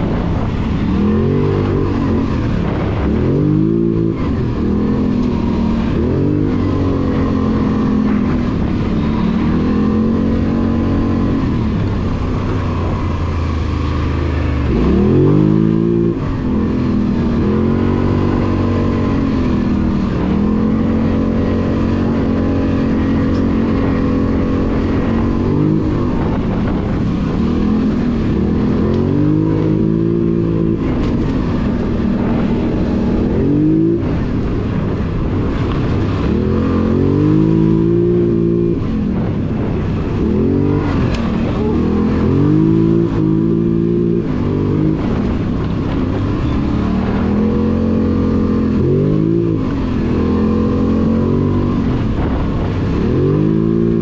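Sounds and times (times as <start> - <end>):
quad bike engine revving: 0.0 - 54.0.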